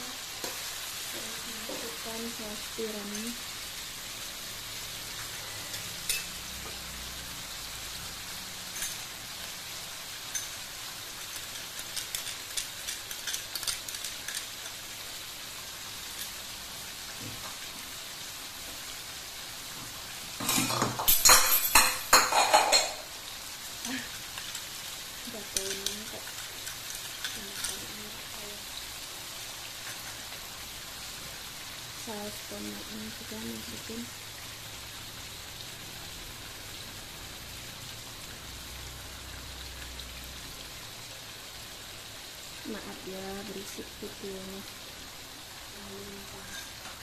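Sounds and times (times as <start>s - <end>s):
vegetables sizzling in a wok: 0.0s - 47.0s.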